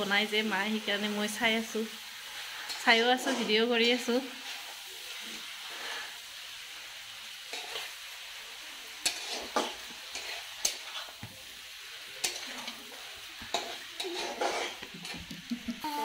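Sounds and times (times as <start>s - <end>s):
curry sizzling in a wok: 0.0s - 16.0s.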